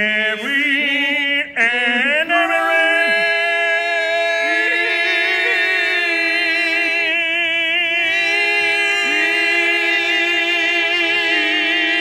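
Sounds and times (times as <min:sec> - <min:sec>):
male tenors singing in harmony: 0:00.0 - 0:12.0.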